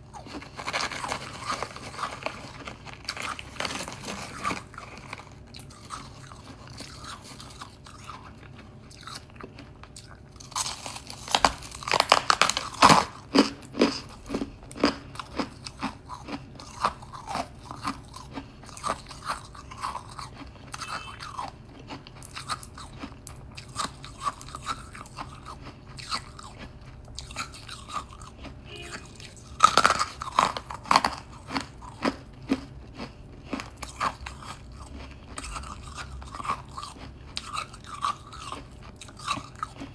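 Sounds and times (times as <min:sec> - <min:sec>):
person chewing crunchy frost: 0:00.0 - 0:39.9.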